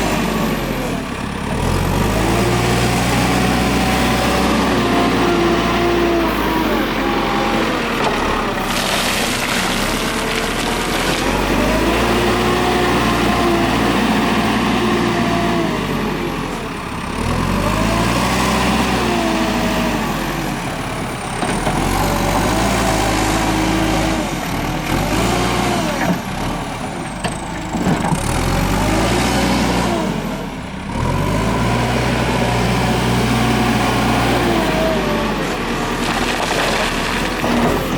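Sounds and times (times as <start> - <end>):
diesel engine revving: 0.0 - 37.9.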